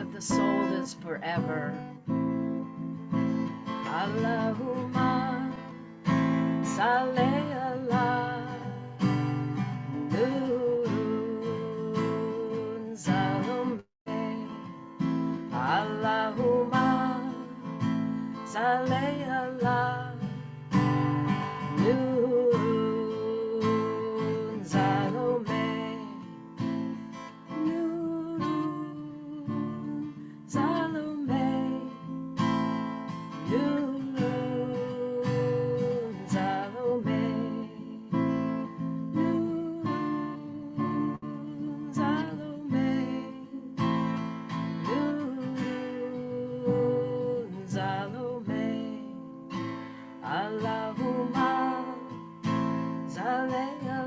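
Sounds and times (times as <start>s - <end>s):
strummed acoustic guitar: 0.0s - 54.0s.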